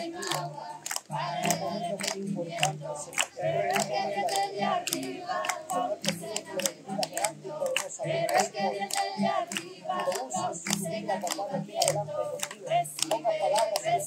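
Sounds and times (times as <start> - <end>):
congregation clapping in time: 0.0 - 14.0
voices singing along: 0.0 - 14.0.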